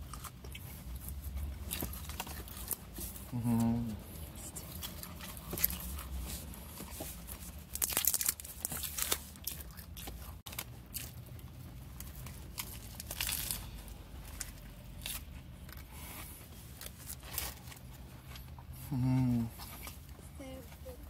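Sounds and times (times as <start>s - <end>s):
food wrapping crinkling and tearing: 0.0s - 3.6s, 4.4s - 18.6s
lettuce being bitten and chewed: 0.0s - 19.9s.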